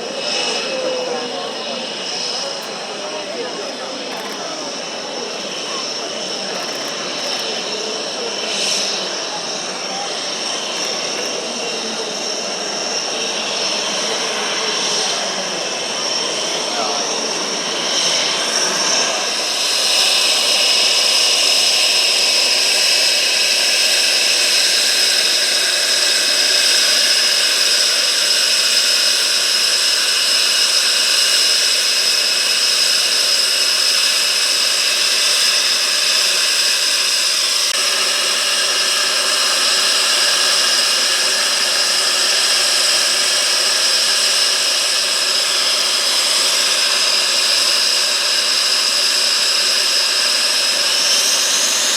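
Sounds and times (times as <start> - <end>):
exhaust hiss: 0.0 - 51.9
jet engine whine: 0.0 - 51.9.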